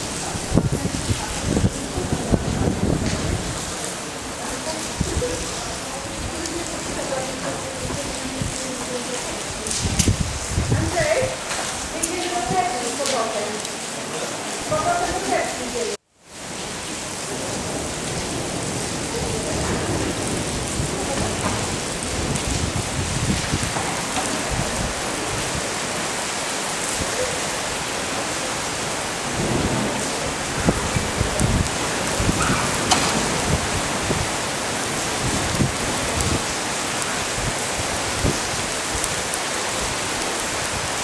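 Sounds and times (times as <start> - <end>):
heavy rain on stone paving: 0.0 - 41.0.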